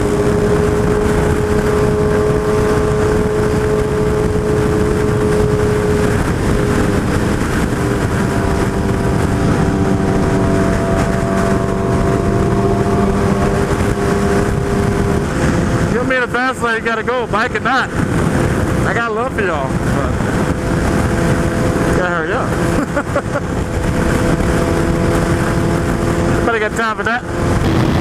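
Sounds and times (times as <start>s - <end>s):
motorcycle engine cruising: 0.0s - 28.0s
wind and road rush: 0.0s - 28.0s.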